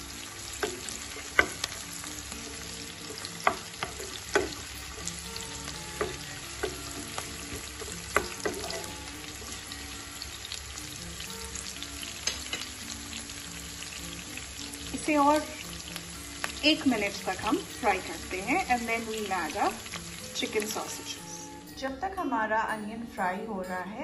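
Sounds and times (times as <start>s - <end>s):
vegetables sizzling in hot oil: 0.0s - 21.7s.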